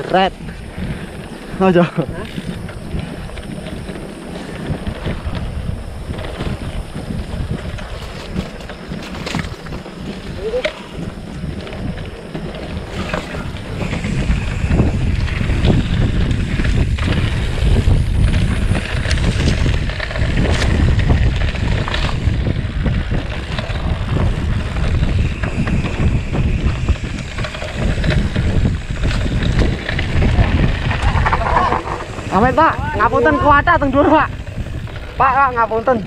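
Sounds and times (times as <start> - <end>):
wind buffeting microphone: 0.0 - 36.0
bike knocks and rattles: 6.1 - 35.4.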